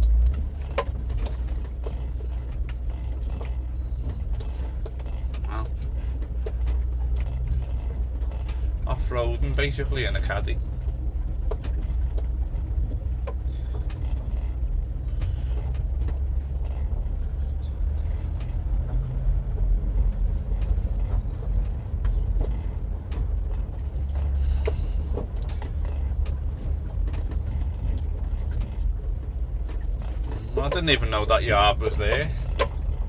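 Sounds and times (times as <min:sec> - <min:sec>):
van engine and tyres rumble: 0:00.0 - 0:33.0
van knocks and rattles: 0:00.0 - 0:33.0.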